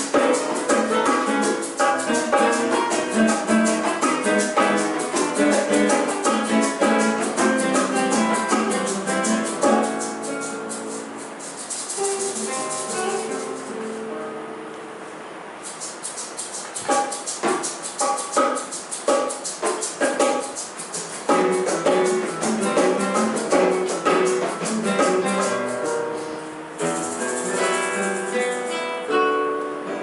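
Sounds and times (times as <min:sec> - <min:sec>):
shaker rhythm: 0:00.0 - 0:14.1, 0:15.5 - 0:29.1
classical guitar ensemble playing: 0:00.0 - 0:30.0.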